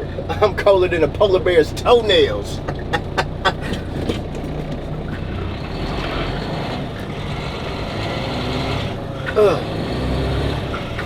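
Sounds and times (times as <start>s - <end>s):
road noise: 0.0s - 11.0s
truck diesel engine running: 0.0s - 11.0s.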